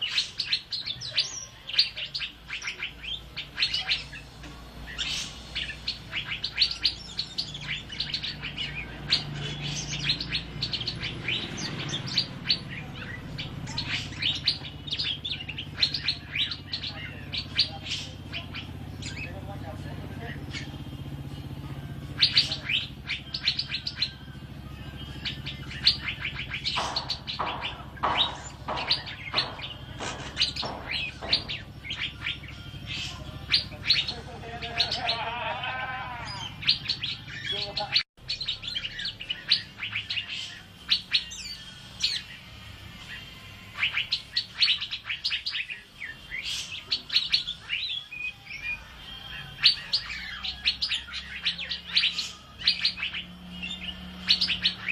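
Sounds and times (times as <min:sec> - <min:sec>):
bird singing high whistled notes: 0:00.0 - 0:35.3, 0:36.3 - 0:54.9.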